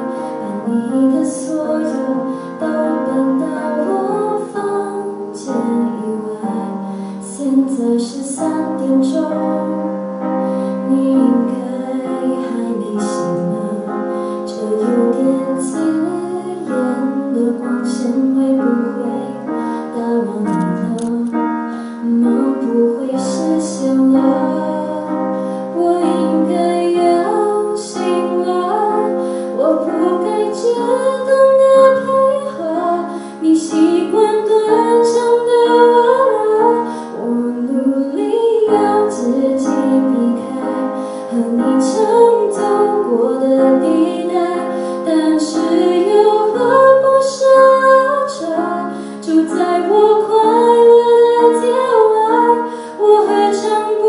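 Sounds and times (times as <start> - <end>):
grand piano: 0.0 - 54.0
young woman singing: 0.0 - 54.0.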